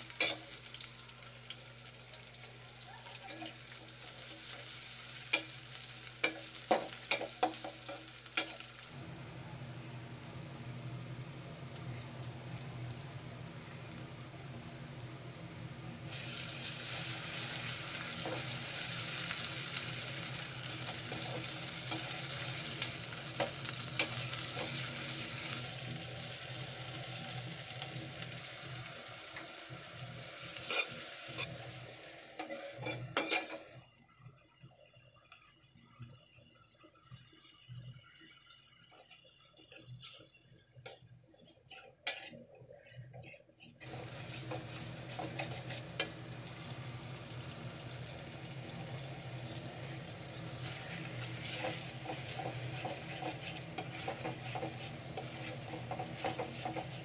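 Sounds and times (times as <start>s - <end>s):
food sizzling in oil: 0.0s - 9.4s, 10.0s - 33.8s, 37.0s - 42.8s, 43.6s - 57.0s.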